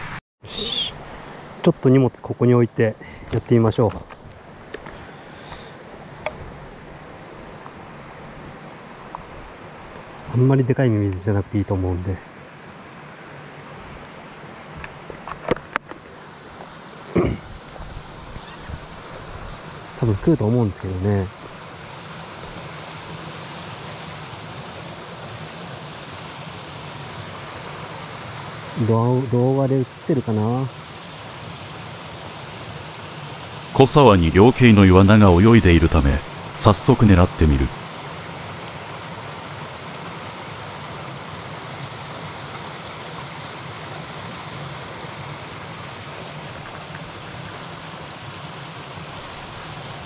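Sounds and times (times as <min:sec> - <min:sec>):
stream running over rocks: 0:00.0 - 0:50.0.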